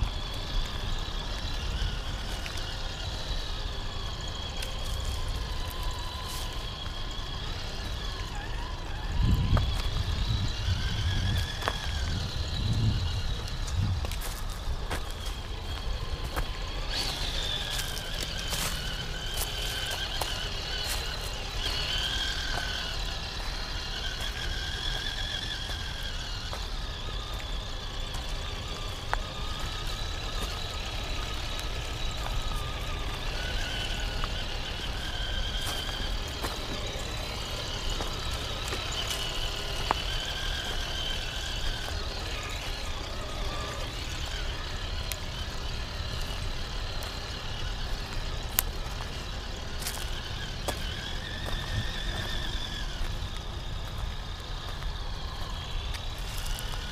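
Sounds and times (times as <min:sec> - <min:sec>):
electric motor and gears whining: 0:00.0 - 0:56.9.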